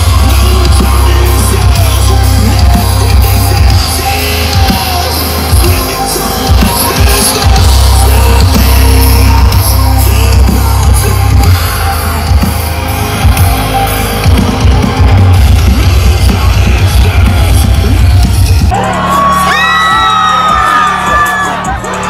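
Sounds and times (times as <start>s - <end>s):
heavy bass: 0.0s - 22.0s
person singing live: 0.0s - 22.0s
pounding drums: 0.0s - 22.0s.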